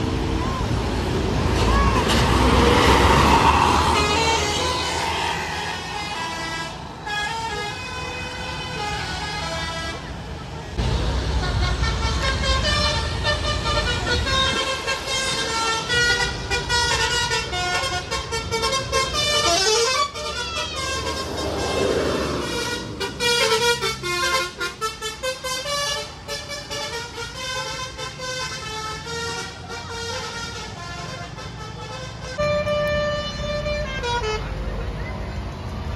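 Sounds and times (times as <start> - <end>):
musical bus air horn: 3.8 - 10.2, 11.3 - 21.8, 22.4 - 34.6.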